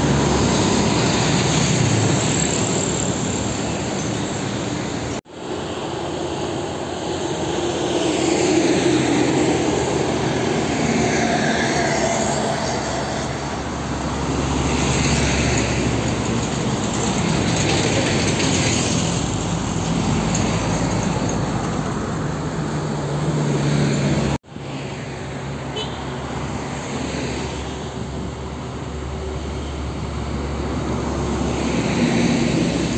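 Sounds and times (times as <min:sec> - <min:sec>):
diesel trucks passing: 0:00.0 - 0:32.9.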